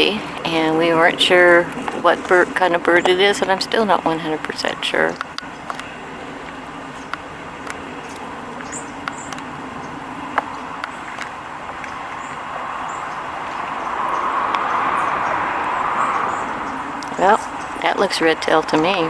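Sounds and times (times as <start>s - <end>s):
street ambience: 0.0s - 19.0s
vehicle passing: 0.0s - 19.0s.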